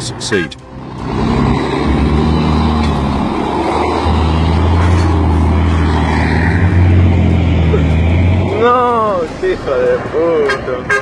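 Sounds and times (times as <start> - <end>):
diesel truck engines under load: 0.0 - 11.0.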